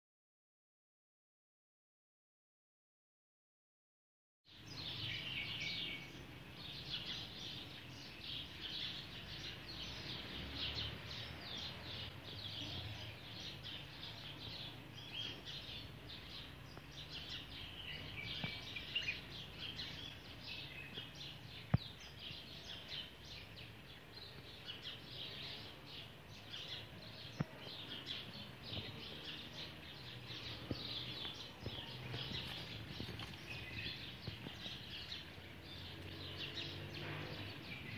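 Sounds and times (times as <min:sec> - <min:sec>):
birds chirping: 0:04.5 - 0:37.9.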